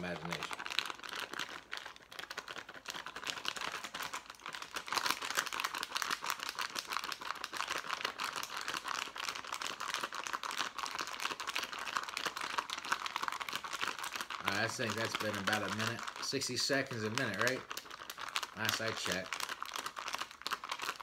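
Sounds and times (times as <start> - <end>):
plastic pouch crinkling when shaken: 0.0 - 21.0.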